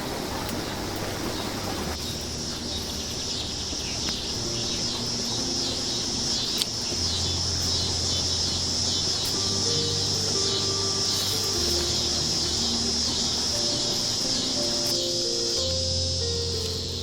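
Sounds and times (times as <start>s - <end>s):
insects buzzing: 0.0s - 17.0s
soft background music: 0.0s - 17.0s.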